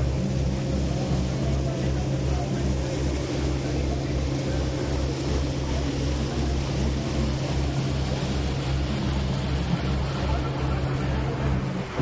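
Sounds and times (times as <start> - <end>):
boat engine droning: 0.0 - 12.0
water rushing: 0.0 - 12.0
wind: 0.0 - 12.0.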